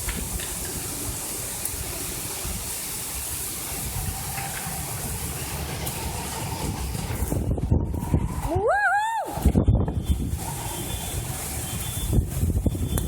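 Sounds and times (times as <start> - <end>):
heavy rain hissing: 0.0 - 13.0
wind buffeting microphone: 0.0 - 13.0.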